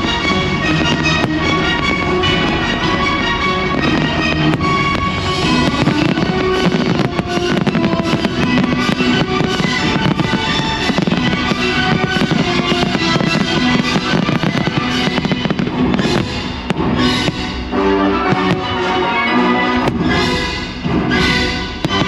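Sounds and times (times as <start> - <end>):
fireworks bursting and crackling: 0.0 - 22.0
loud music: 0.0 - 22.0.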